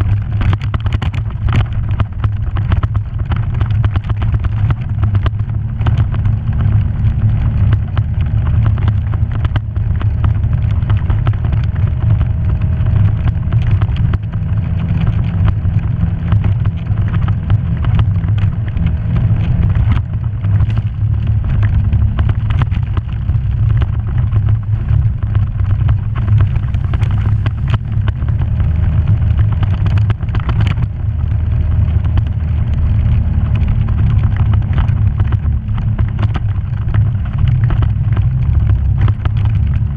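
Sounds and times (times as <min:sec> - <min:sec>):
off-road vehicle engine running: 0:00.0 - 0:39.9
vehicle knocks and rattles: 0:00.0 - 0:39.9.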